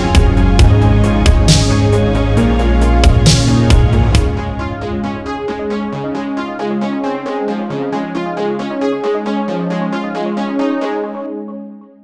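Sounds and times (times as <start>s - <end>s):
electronic music with beat: 0.0s - 11.9s.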